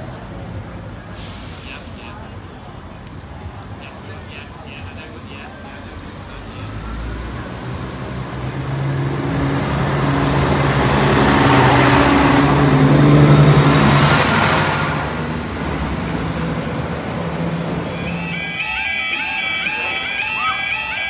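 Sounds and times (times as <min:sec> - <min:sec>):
diesel engines humming: 0:03.6 - 0:21.0.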